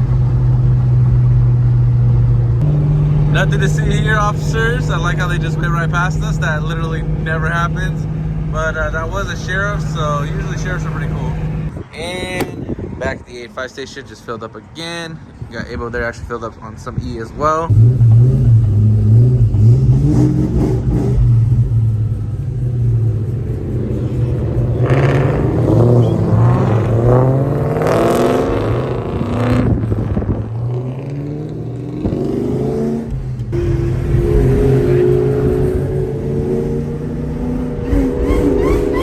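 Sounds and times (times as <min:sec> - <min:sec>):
car engine revving: 0:00.0 - 0:11.7, 0:17.7 - 0:39.0.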